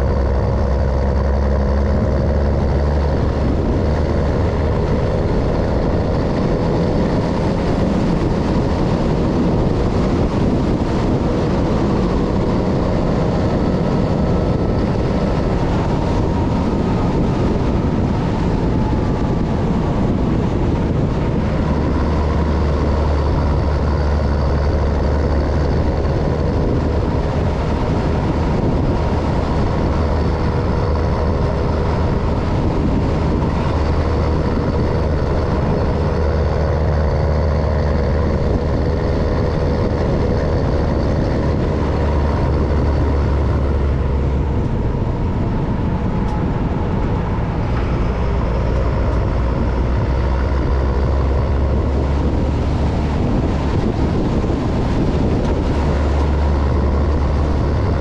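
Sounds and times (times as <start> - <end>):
road noise: 0.0 - 58.0
truck diesel engine running: 0.0 - 58.0.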